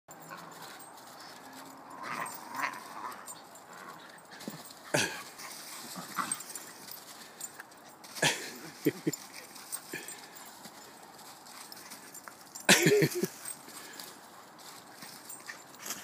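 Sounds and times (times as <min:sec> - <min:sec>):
dogs scrabbling through dry leaves: 0:00.1 - 0:16.0.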